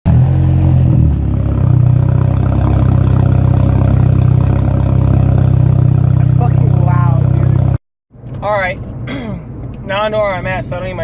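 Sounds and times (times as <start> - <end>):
car engine and exhaust droning: 0.1 - 11.0.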